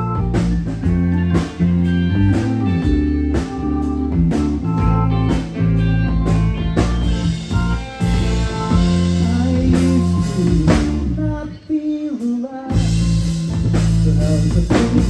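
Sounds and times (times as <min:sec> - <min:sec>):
drum kit beat: 0:00.0 - 0:11.2, 0:12.2 - 0:15.0
bass guitar: 0:00.0 - 0:11.8, 0:12.7 - 0:15.0
electric guitar: 0:00.0 - 0:15.0.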